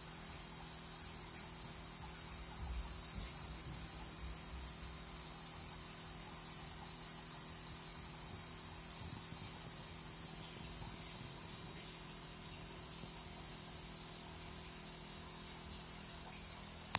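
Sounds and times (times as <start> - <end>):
cricket chirping: 0.0 - 16.9
faint low hum: 0.0 - 16.9.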